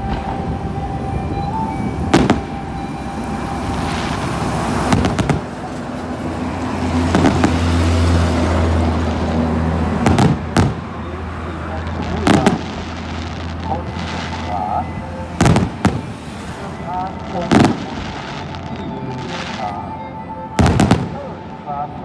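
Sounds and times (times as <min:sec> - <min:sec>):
background rumble: 0:00.0 - 0:20.0
fireworks bangs: 0:00.0 - 0:20.0, 0:20.6 - 0:21.6.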